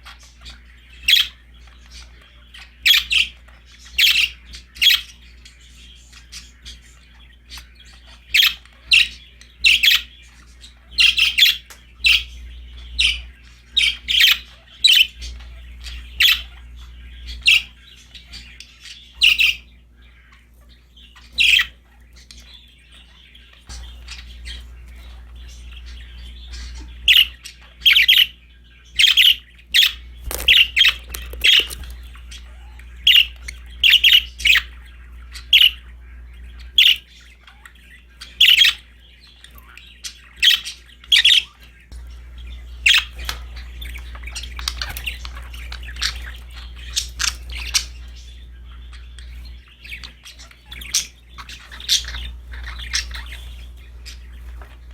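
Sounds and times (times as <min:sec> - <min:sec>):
budgerigars chirping and squawking: 0:00.0 - 0:54.9
low steady hum: 0:00.0 - 0:54.9.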